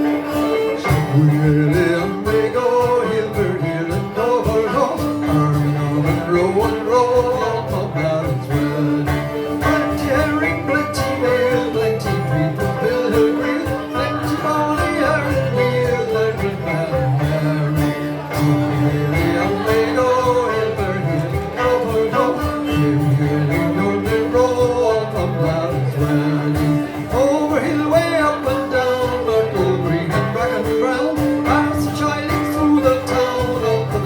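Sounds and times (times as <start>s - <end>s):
banjo: 0.0s - 34.0s
twelve-string guitar strumming: 0.0s - 34.0s.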